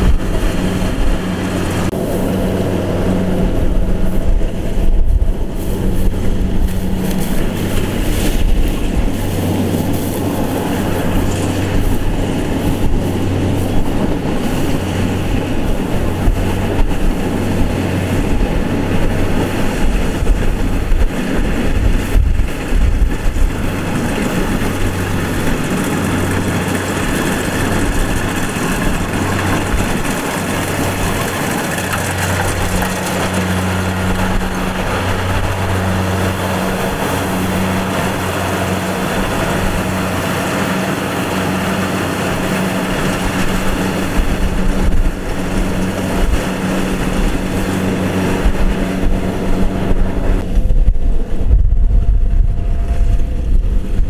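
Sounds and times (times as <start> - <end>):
combine harvester machinery drone: 0.0 - 54.0
wind rumble on microphone: 0.0 - 54.0.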